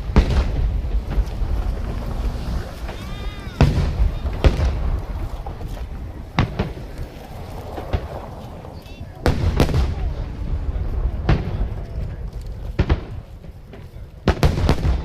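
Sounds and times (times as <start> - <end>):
fireworks rolling rumble: 0.0 - 15.0
fireworks sharp bangs: 0.0 - 15.0.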